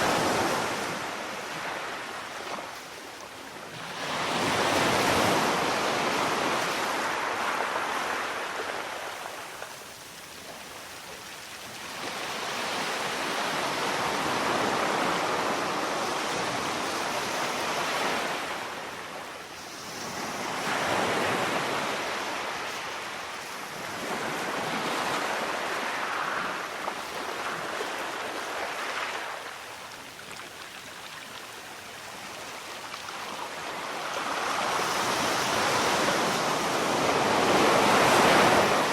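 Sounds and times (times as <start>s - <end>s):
sea waves surging: 0.0s - 38.9s.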